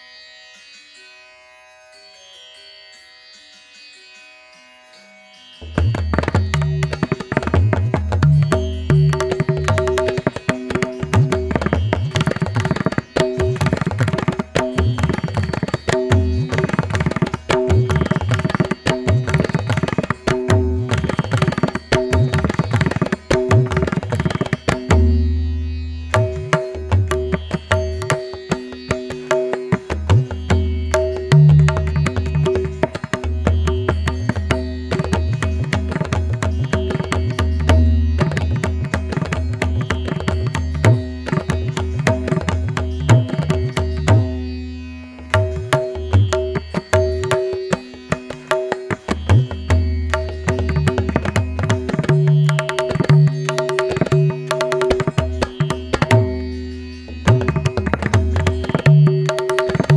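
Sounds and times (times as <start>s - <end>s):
tabla playing fast rhythm: 5.6s - 59.9s.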